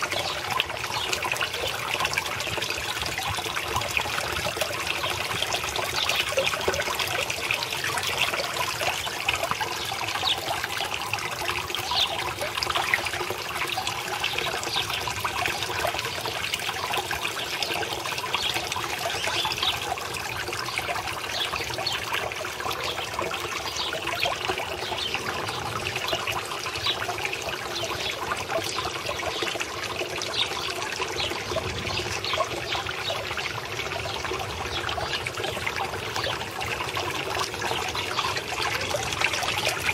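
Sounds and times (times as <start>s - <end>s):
fountain water splashing into pond: 0.0s - 39.9s.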